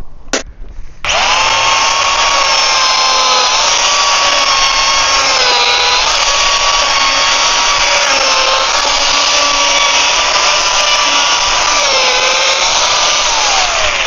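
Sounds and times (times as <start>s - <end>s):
chainsaw cutting wood: 1.0s - 14.0s.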